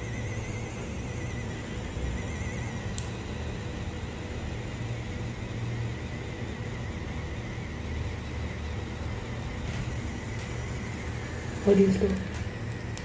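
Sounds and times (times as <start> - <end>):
small motor humming and whining: 0.0 - 13.0.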